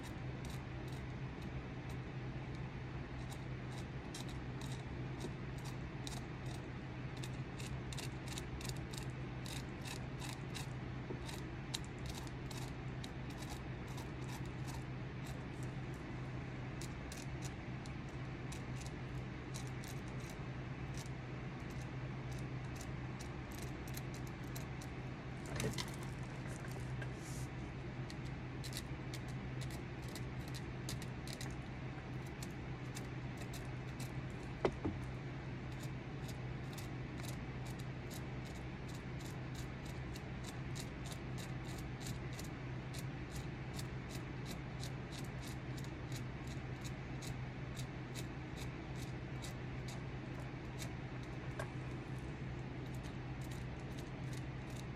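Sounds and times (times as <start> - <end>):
steady low hum: 0.0 - 54.9
carving tool scraping wood: 3.0 - 16.0, 16.7 - 27.5, 28.1 - 35.0, 35.7 - 54.9.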